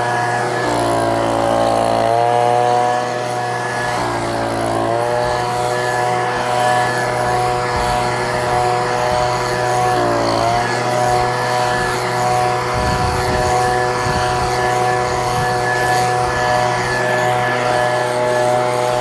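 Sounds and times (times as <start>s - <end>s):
leaf blower engine running: 0.0s - 19.0s.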